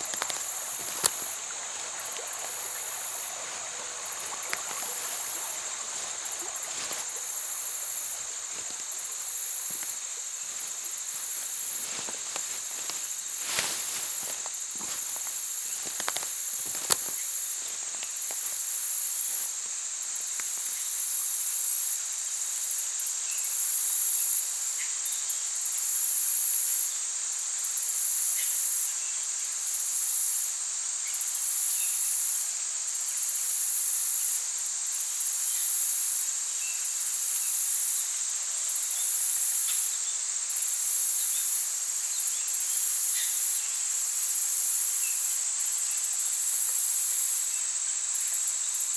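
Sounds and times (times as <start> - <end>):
insects chirping: 0.0 - 48.9.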